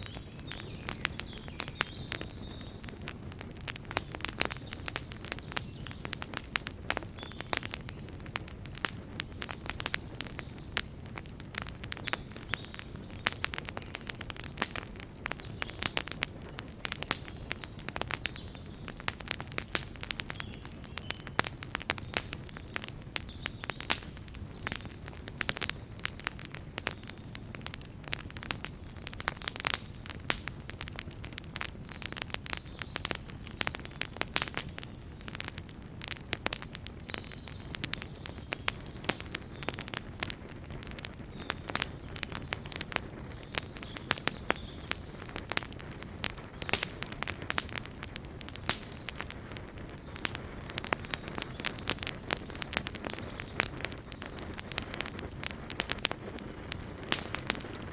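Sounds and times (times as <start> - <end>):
campfire crackling and popping: 0.0 - 57.9
fire burning rush: 0.0 - 57.9.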